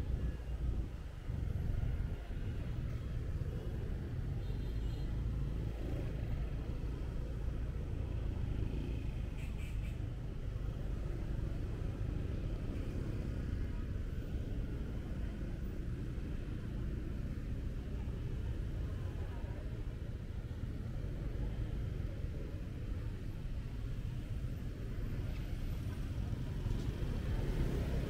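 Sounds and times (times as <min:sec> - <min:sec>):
street traffic: 0:00.0 - 0:28.0.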